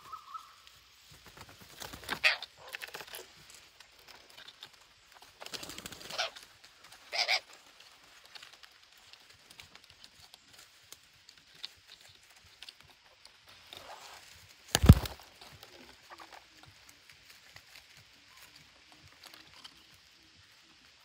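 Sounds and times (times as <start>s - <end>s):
rustle: 0.0s - 21.0s.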